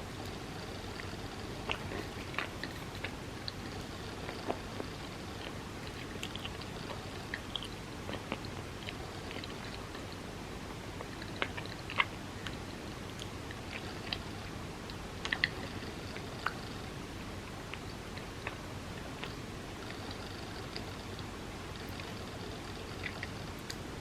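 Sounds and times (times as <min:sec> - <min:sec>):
chewing bread: 0:00.0 - 0:24.0.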